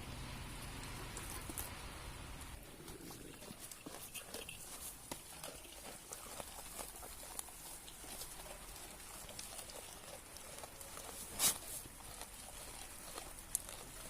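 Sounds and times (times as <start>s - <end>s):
goats crunching fodder: 0.0s - 14.0s.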